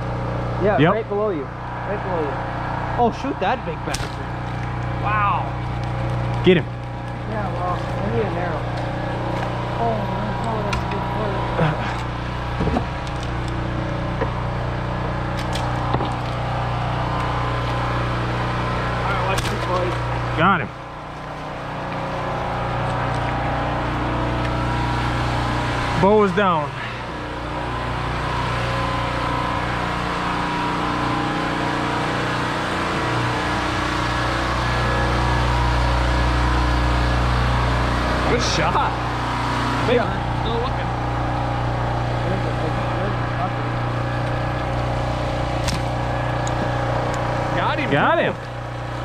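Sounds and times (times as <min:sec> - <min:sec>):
engine humming: 0:00.0 - 0:49.0.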